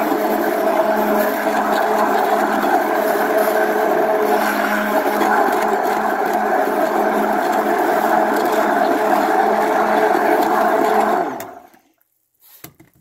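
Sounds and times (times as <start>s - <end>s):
electric stick blender running: 0.0s - 11.8s.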